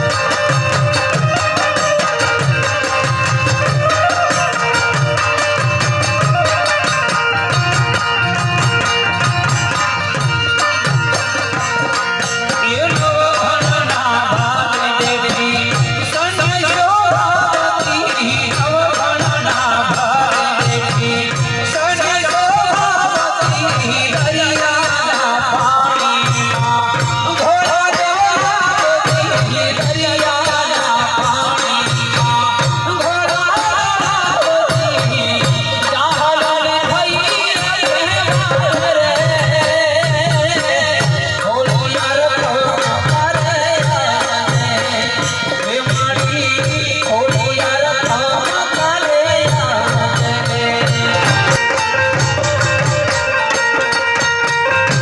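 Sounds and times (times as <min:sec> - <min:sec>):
hand-drum beat: 0:00.0 - 0:55.0.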